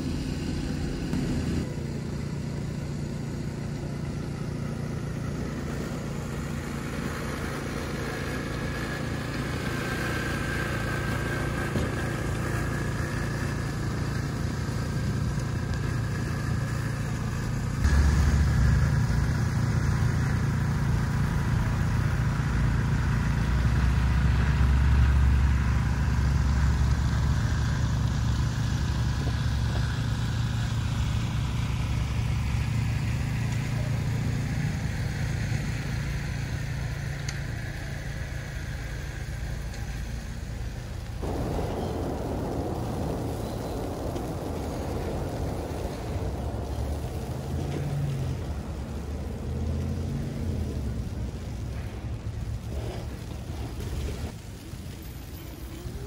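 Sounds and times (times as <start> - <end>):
street traffic passing: 0.0 - 56.0.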